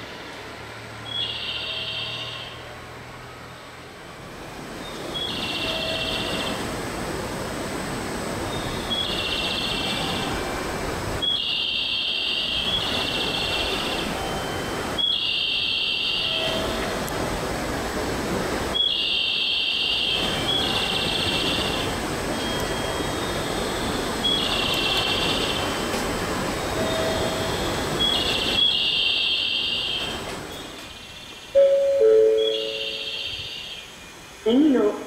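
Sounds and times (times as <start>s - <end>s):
distant diesel train rumble: 0.0s - 35.0s.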